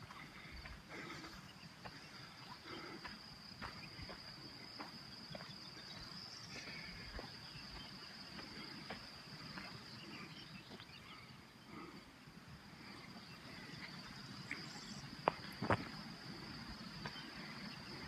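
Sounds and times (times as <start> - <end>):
footsteps on dirt path: 0.0 - 11.0, 13.5 - 18.0
crickets trilling: 0.0 - 18.0.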